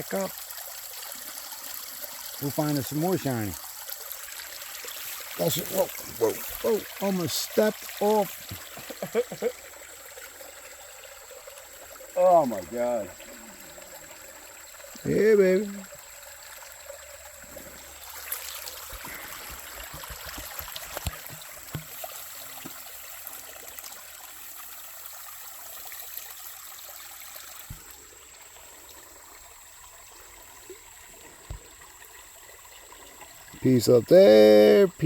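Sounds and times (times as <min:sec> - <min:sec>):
creek water running: 0:00.0 - 0:35.0.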